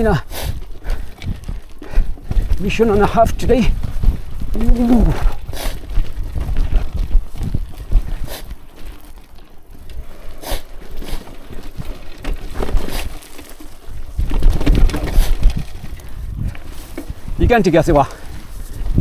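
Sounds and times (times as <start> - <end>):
mountain bike rattling over rocks: 0.0 - 19.0.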